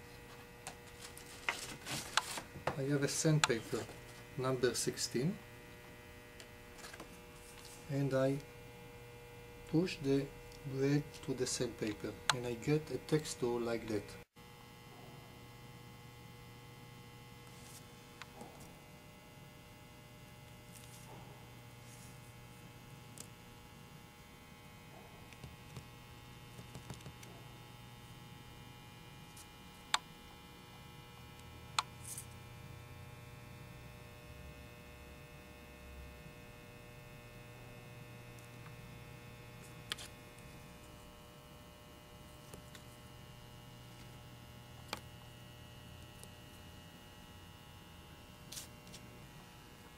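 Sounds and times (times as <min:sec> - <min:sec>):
low electrical hum: 0:00.0 - 0:49.9.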